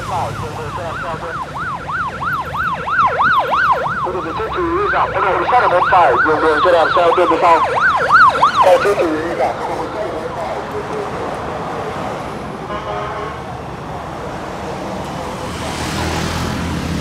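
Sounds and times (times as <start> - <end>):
sirens on fast yelp: 0.0 - 16.4
vehicles passing: 0.0 - 17.0.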